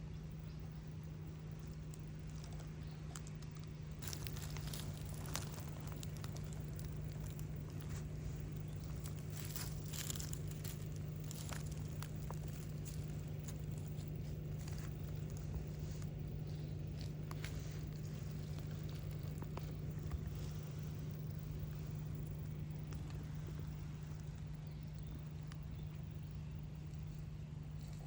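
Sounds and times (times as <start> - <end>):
steady low hum: 0.0 - 28.0
small clicks and crackles: 1.5 - 28.0.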